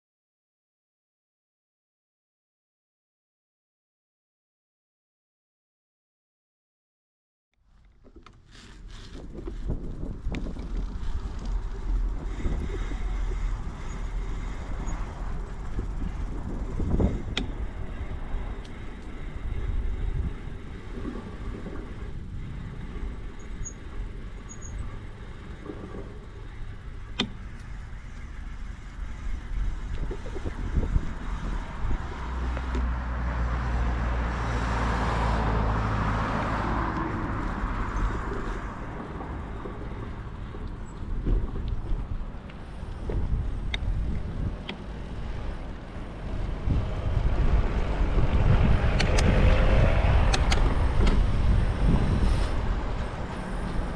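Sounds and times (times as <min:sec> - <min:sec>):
tyre and road noise: 0:07.6 - 0:53.9
wind on microphone: 0:08.5 - 0:53.9.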